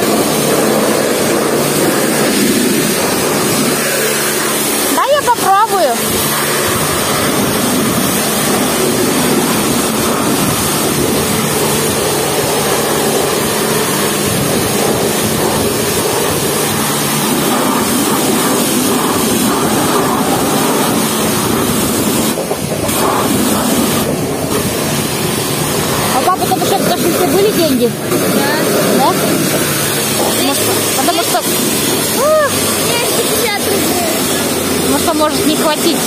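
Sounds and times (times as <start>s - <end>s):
pressure washer water spray: 0.0s - 36.0s.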